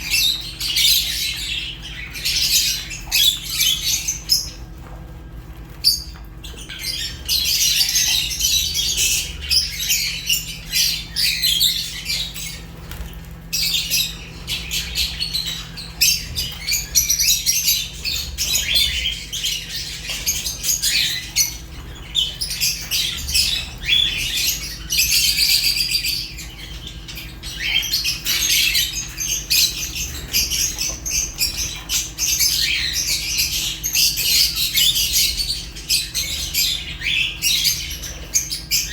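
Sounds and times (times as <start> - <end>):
flock of birds chirping and squawking: 0.0 - 38.9.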